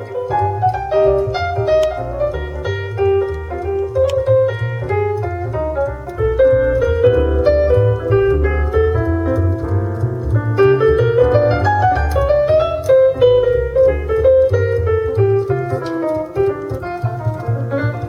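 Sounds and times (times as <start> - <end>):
piano trio through car speakers: 0.0 - 18.0.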